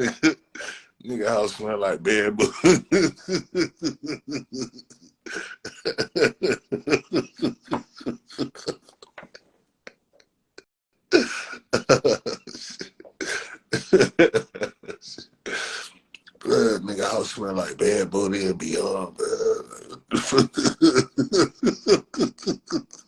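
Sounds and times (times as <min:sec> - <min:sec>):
man laughing hard: 0:00.0 - 0:09.0, 0:11.1 - 0:15.8, 0:16.4 - 0:23.0.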